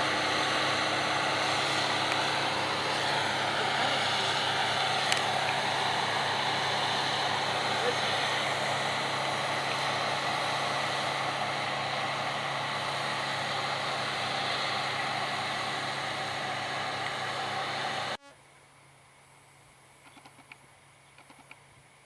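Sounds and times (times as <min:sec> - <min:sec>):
farm machinery engine hum: 0:00.0 - 0:18.2.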